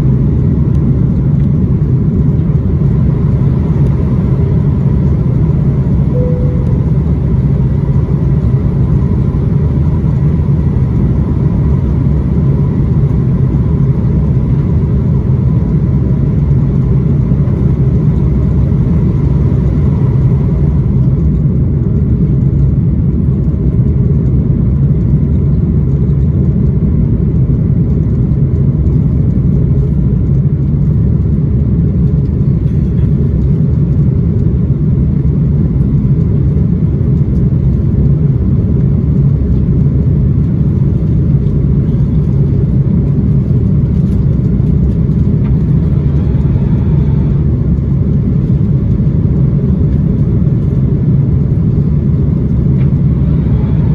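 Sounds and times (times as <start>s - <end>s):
deep jet engine rumble: 0.0s - 53.9s
faint engine whine: 0.0s - 53.9s.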